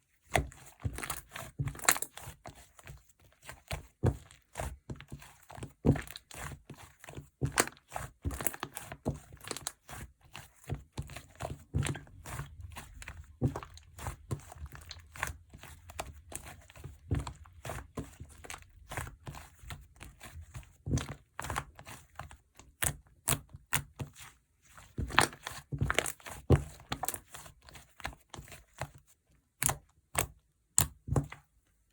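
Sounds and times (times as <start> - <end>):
slime squishing with wet pops: 0.2 - 31.6.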